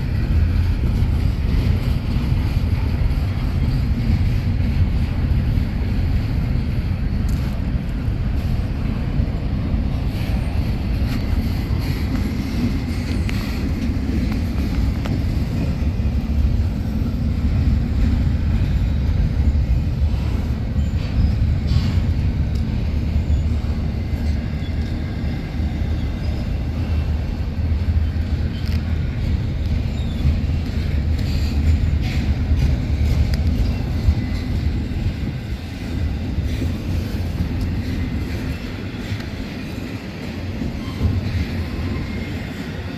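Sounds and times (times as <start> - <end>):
faint clicks from train wheels: 0.0 - 42.9
train rumbling past: 0.0 - 42.9.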